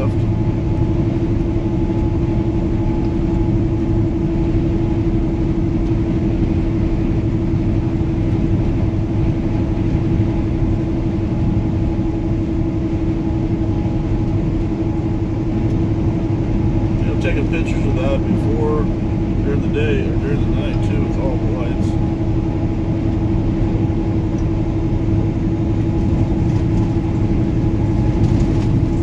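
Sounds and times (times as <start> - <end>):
road noise: 0.0 - 29.0
truck diesel engine drone: 0.0 - 29.0.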